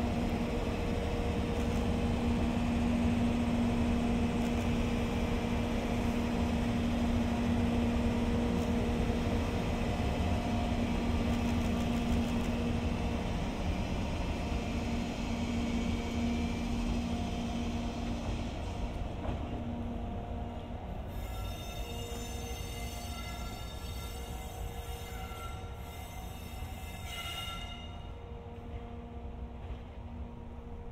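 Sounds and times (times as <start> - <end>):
electric locomotive humming: 0.0 - 30.9.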